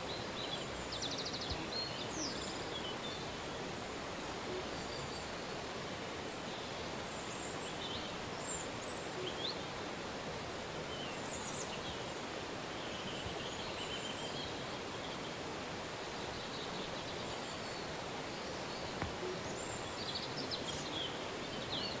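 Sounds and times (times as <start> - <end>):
birds chirping: 0.0 - 22.0
river flowing: 0.0 - 22.0.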